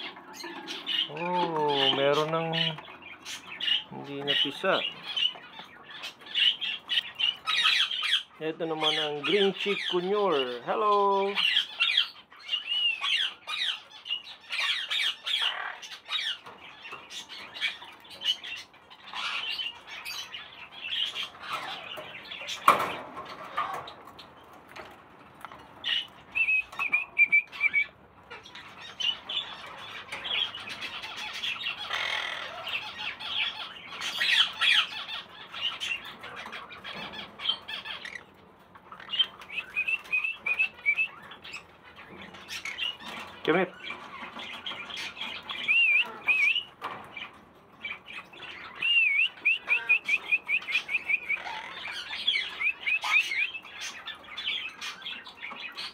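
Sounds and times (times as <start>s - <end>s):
parrots squawking and chirping: 0.0s - 55.9s.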